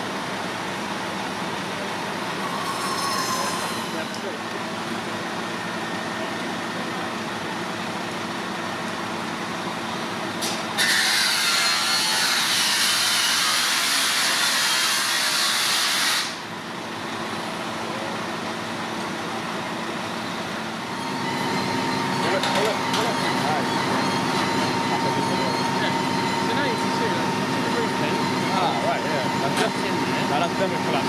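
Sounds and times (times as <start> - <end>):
fire engine running: 0.0 - 2.8, 3.4 - 10.8, 16.2 - 31.0.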